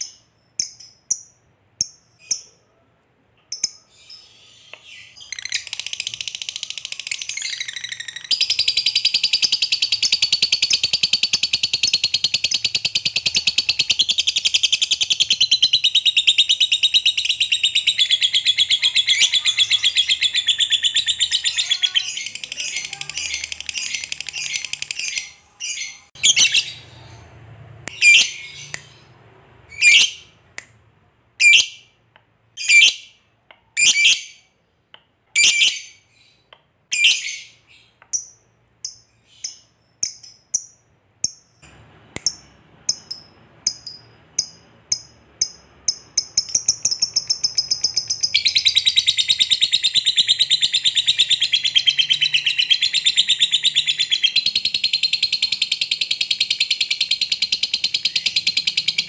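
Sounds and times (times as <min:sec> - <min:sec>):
lovebird calling and trilling: 0:03.5 - 0:30.4, 0:31.4 - 0:32.0, 0:32.6 - 0:33.2, 0:33.8 - 0:34.5, 0:35.4 - 0:41.6, 0:42.2 - 0:59.0.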